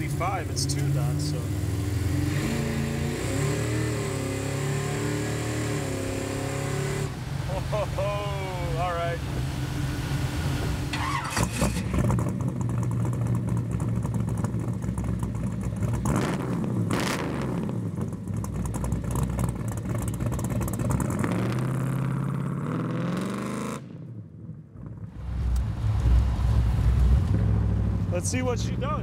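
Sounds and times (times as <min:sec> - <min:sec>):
car engine accelerating hard: 0:00.0 - 0:23.9.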